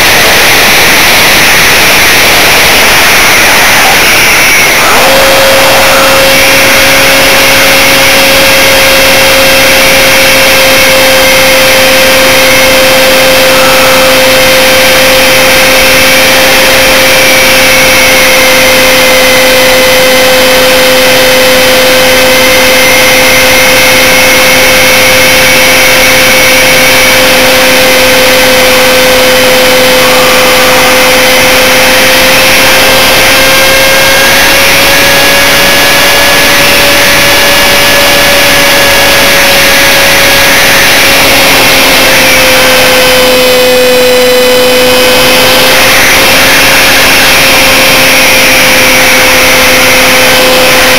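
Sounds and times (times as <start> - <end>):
electric motor high whine: 0.0 - 50.9.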